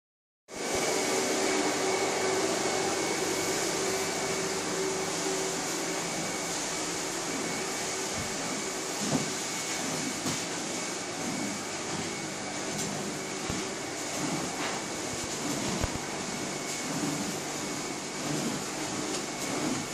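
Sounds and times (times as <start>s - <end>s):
carpet extraction machine whining: 0.5s - 19.9s.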